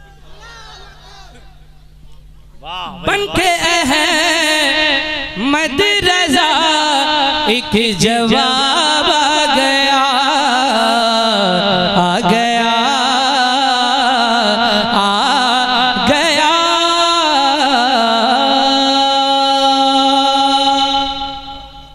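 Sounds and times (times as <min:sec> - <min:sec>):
man singing: 0:02.7 - 0:21.9.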